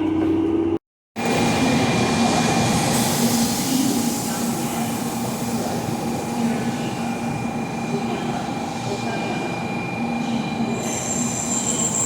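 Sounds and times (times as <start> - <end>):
electric train running rumble: 0.0 - 12.0.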